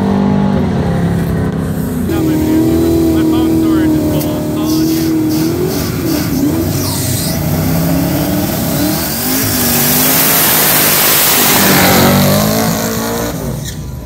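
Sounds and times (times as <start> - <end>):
engine revving hard: 2.1 - 13.9.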